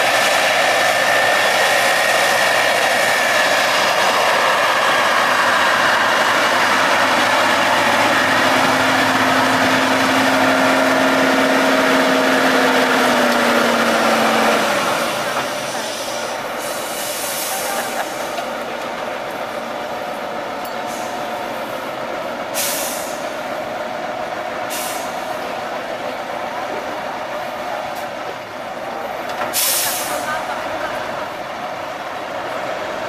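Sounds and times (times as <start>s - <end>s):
truck diesel engine under load: 0.0s - 33.0s.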